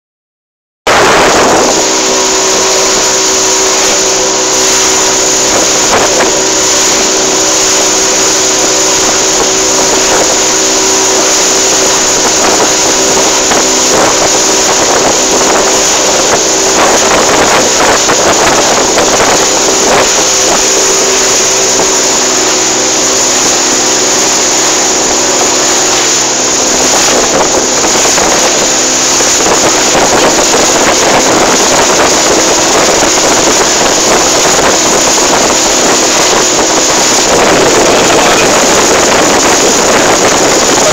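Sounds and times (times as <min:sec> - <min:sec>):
boat engine running: 0:00.9 - 0:40.9
water rushing: 0:00.9 - 0:40.9
wind buffeting microphone: 0:00.9 - 0:40.9.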